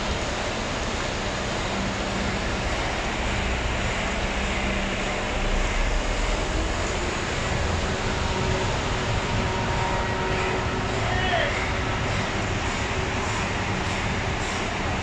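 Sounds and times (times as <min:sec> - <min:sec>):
truck diesel engine rumble: 0:00.0 - 0:15.0.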